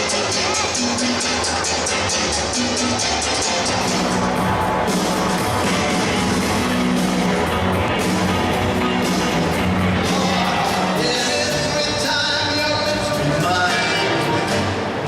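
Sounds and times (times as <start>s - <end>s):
rock music with guitar and bass: 0.0s - 15.0s.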